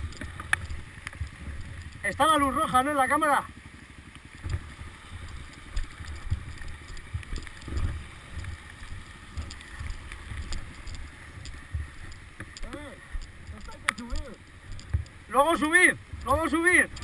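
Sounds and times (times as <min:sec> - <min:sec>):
small clicks: 0:00.0 - 0:02.3, 0:05.2 - 0:17.0.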